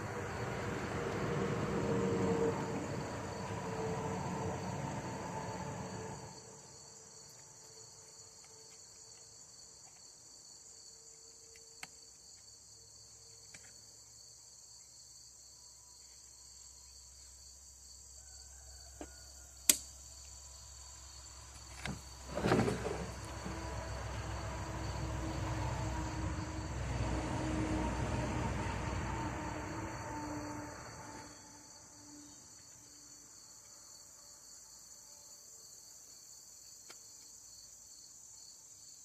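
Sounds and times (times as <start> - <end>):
crickets chirring: 0.0 - 39.0.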